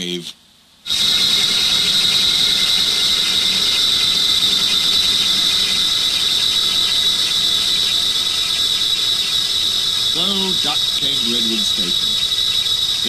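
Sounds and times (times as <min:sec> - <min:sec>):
constant hiss: 0:00.0 - 0:13.0
steady high-pitched squeal: 0:00.9 - 0:13.0.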